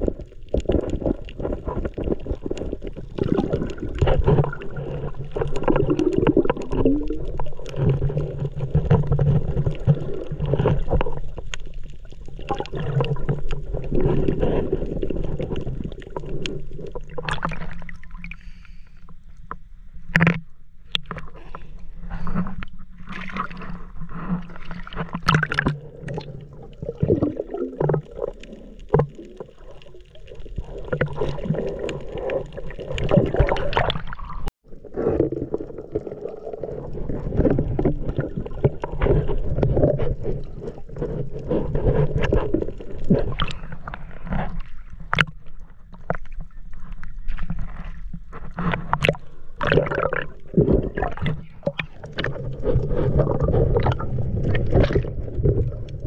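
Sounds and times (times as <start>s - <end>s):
water sloshing and gurgling: 0.0s - 56.0s
water splashes: 0.0s - 56.0s.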